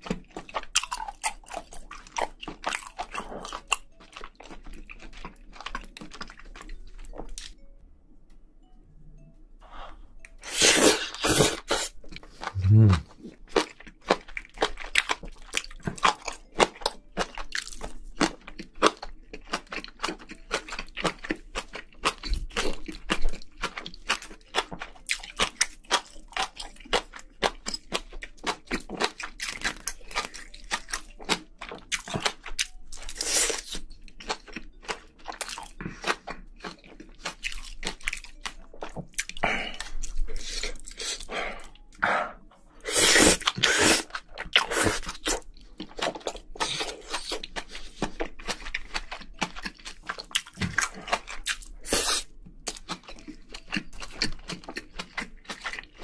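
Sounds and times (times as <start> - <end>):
chewing and crunching: 0.0 - 7.6, 10.2 - 56.0.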